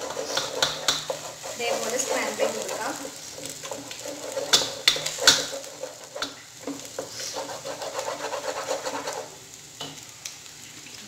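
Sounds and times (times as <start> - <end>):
wooden spatula scraping a pan: 0.0 - 9.4
eggs sizzling in oil: 0.0 - 11.0.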